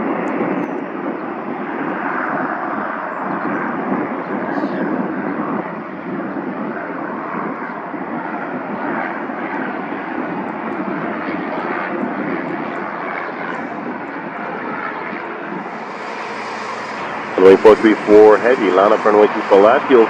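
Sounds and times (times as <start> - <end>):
jet engines taxiing: 0.0 - 20.0.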